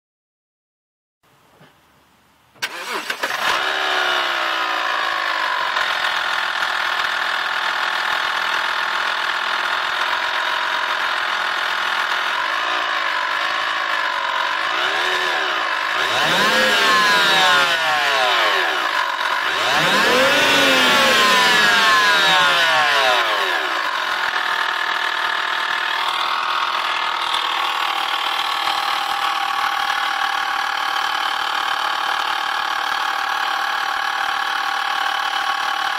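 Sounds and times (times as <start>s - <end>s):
car engine starting and idling: 2.5s - 35.9s
engine revving: 2.6s - 33.8s
engine ticking: 2.6s - 35.9s.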